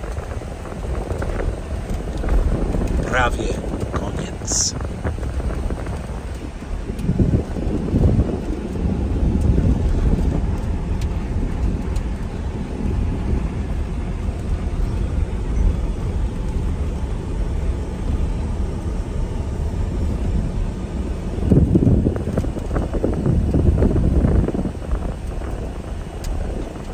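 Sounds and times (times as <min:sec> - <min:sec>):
pickup truck rolling on dirt road: 0:00.0 - 0:26.9.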